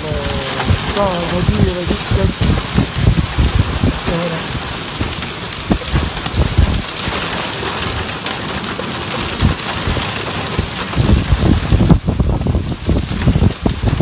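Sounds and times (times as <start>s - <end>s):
very heavy rain pouring: 0.0s - 14.0s.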